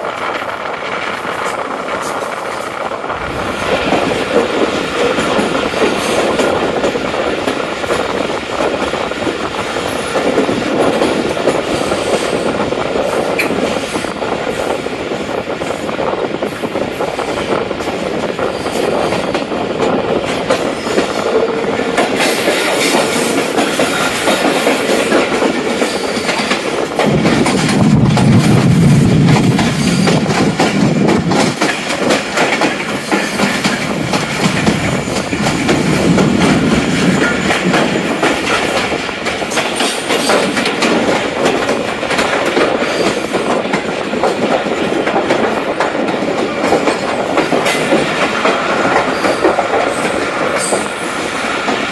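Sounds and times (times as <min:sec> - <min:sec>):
train wheels clattering over rail joints: 0:00.0 - 0:51.9.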